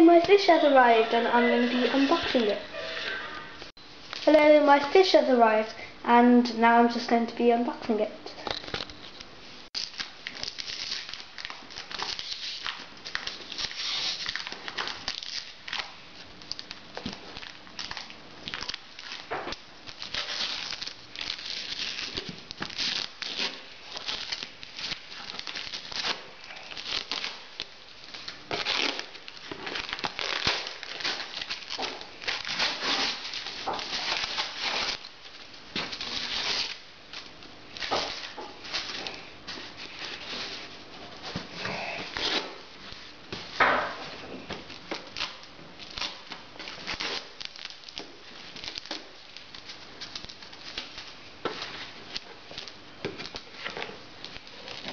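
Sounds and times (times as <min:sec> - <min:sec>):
tape tearing: 0:08.4 - 0:09.2, 0:09.8 - 0:42.6, 0:43.3 - 0:54.9.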